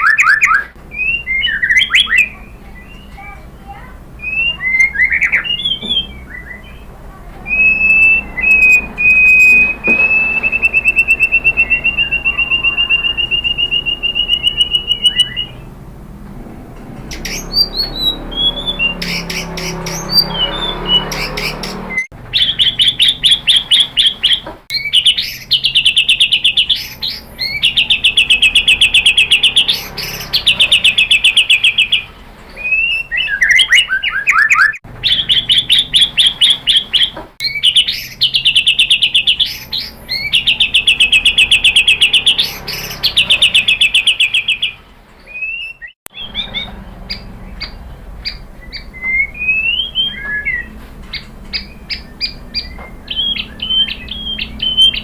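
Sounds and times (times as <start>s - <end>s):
bird chirps and whistles: 0.0s - 3.3s, 4.2s - 15.7s, 17.2s - 55.0s
bird singing rapid notes: 0.0s - 15.8s, 16.4s - 55.0s.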